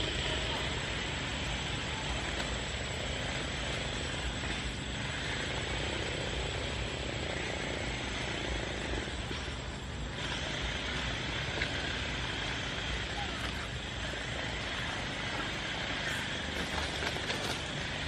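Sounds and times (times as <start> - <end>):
high hiss: 0.0 - 18.0.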